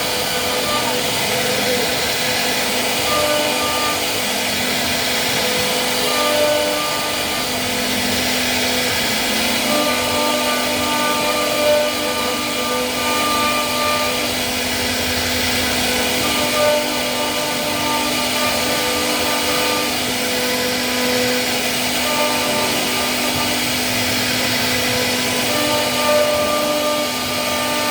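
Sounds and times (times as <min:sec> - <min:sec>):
wood router whining: 0:00.0 - 0:27.9.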